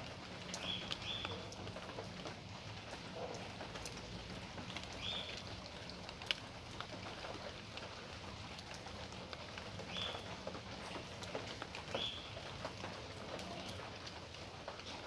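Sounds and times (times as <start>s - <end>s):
rain pattering: 0.0s - 15.0s
raindrops dripping on surfaces: 0.0s - 15.0s.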